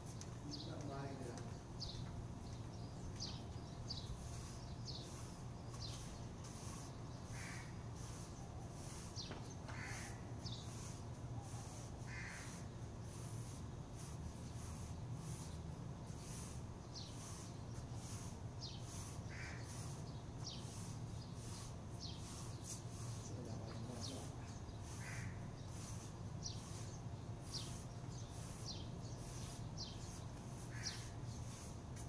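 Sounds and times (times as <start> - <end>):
high falling bird chirps: 0.0 - 13.6, 16.2 - 31.7
lower bird calls: 1.5 - 12.7, 17.0 - 31.7.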